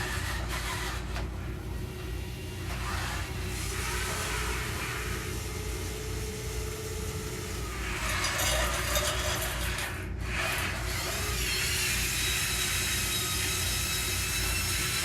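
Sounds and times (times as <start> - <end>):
electric motors and hydraulic pump whine: 0.0 - 15.0.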